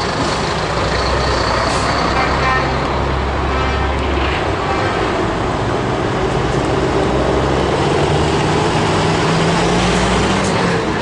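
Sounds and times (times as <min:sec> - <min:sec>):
heavy truck diesel engines droning: 0:00.0 - 0:11.0.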